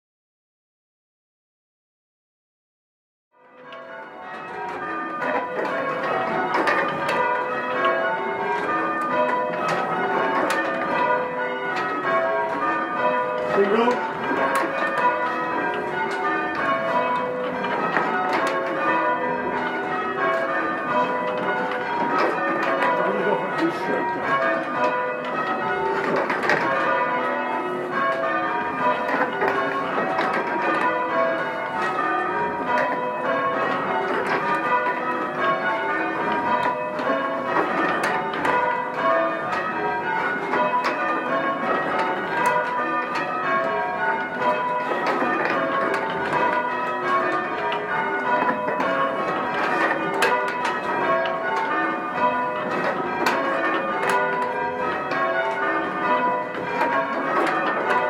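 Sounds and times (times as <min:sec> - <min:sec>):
church bells change ringing: 0:03.4 - 0:58.0.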